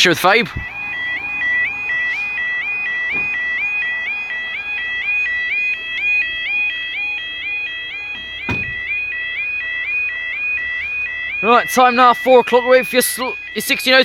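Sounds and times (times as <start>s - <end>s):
level crossing alarm warbling: 0.0s - 14.0s.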